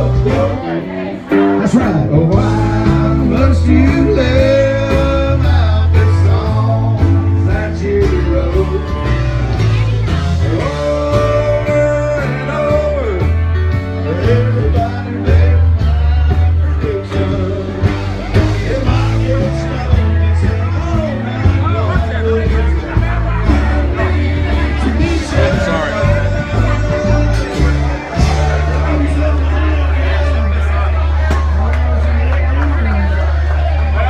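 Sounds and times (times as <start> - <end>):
person singing lead vocal: 0.0 - 30.6
blues rock band playing: 0.0 - 34.0.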